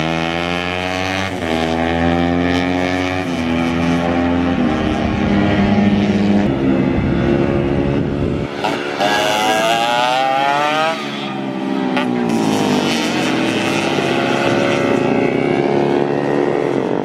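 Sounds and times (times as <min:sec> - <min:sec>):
racing motorcycle engines revving: 0:00.0 - 0:17.0
rising engine whine: 0:02.7 - 0:17.0.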